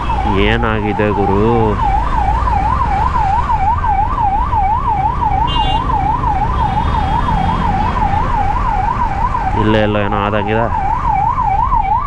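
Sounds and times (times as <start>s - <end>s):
ambulance siren yelping: 0.0s - 12.0s
low rumble of traffic: 0.0s - 12.0s.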